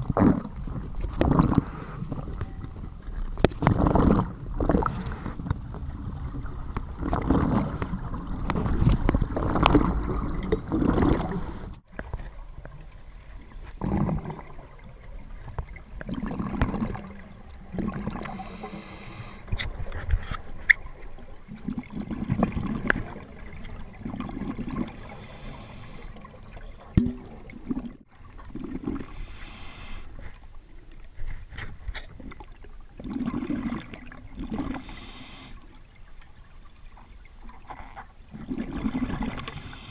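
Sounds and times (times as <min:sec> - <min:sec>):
exhaled bubbles underwater: 0:00.0 - 0:19.8, 0:20.8 - 0:30.0, 0:32.1 - 0:35.8, 0:37.0 - 0:39.9.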